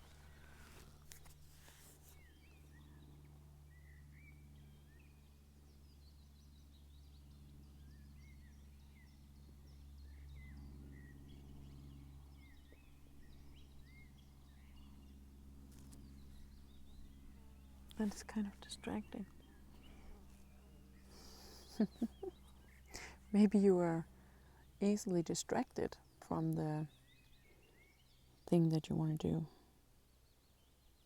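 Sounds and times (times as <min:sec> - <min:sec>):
small birds chirping: 0:00.0 - 0:31.0
distant helicopter droning: 0:02.4 - 0:28.4.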